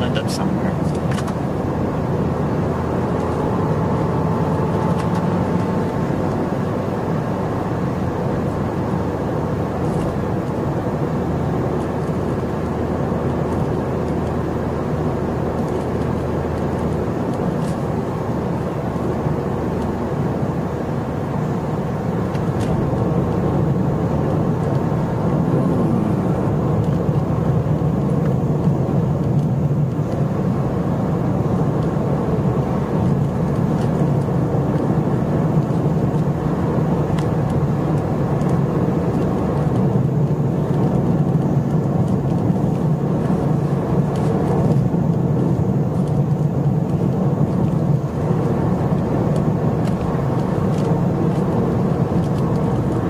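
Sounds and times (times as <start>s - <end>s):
car engine hum: 0.0s - 53.0s
road and tyre noise: 0.0s - 53.0s.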